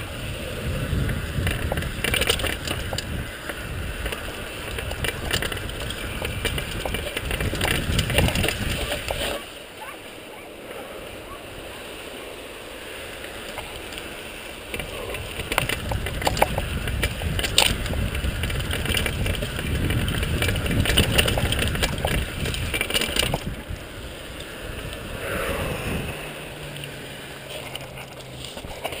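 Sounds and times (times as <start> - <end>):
wind rushing over microphone: 0.0 - 9.5, 13.4 - 29.0
bike rattling and clicking: 0.0 - 9.6, 13.1 - 25.2, 26.3 - 29.0
tyres rolling over stones: 0.4 - 9.6, 12.9 - 25.4, 26.2 - 29.0.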